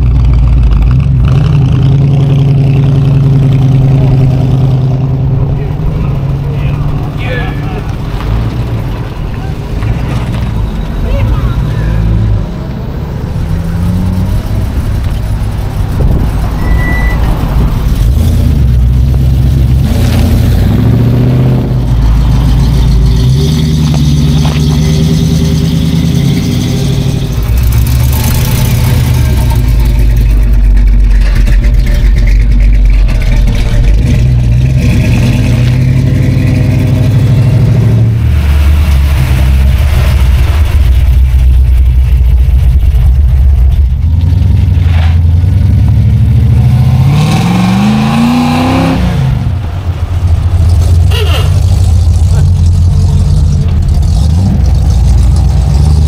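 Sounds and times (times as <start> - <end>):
car engines rumbling and revving: 0.0 - 56.0.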